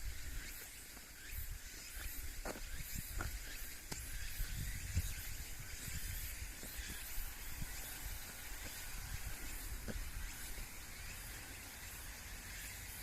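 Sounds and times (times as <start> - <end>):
wind rumbling on microphone: 0.0 - 12.4
high-pitched hiss: 0.0 - 13.0.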